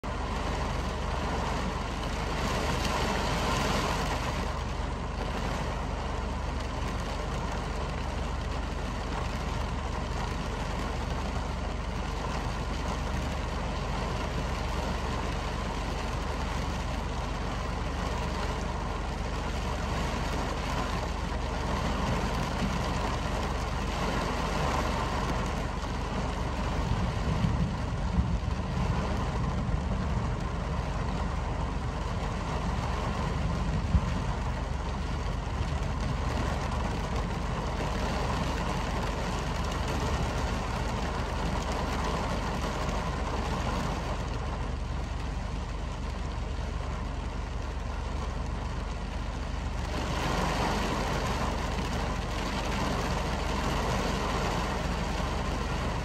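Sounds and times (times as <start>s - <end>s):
constant low rumble: 0.0s - 56.0s
heavy rain hissing: 0.1s - 56.0s.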